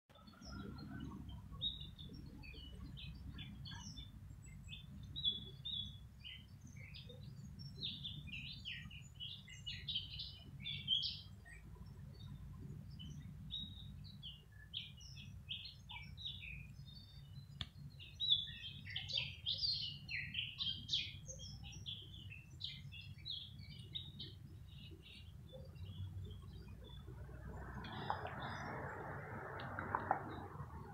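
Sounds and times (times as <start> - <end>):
songbirds chirping: 0.1 - 30.9.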